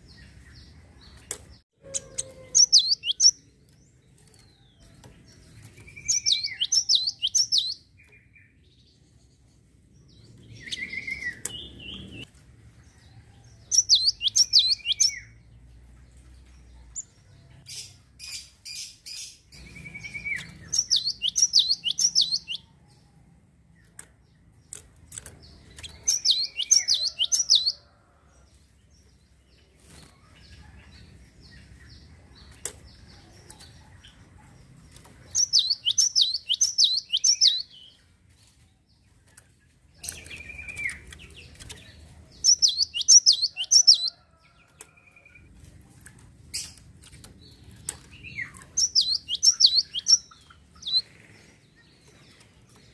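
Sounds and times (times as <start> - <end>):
sparrow chirping song: 0.0 - 52.9.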